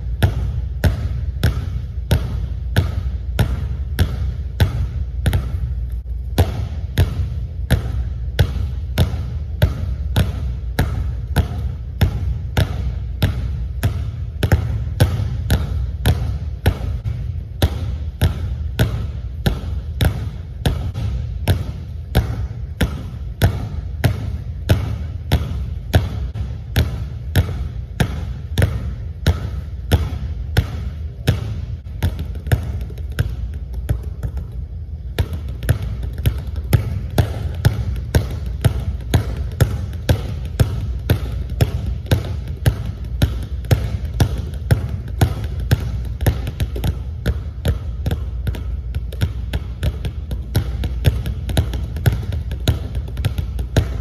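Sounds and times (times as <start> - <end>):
basketballs bouncing on hardwood floor: 0.0 - 54.0.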